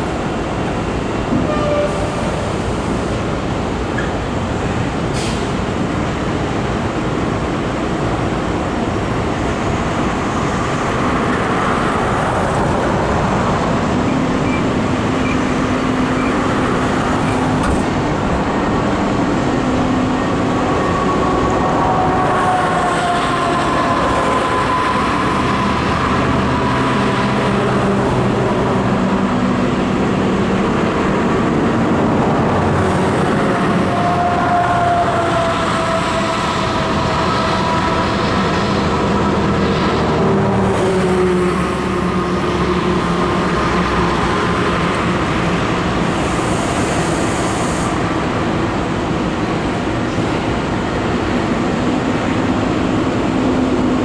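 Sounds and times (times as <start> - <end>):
engines rumbling: 0.0 - 54.0.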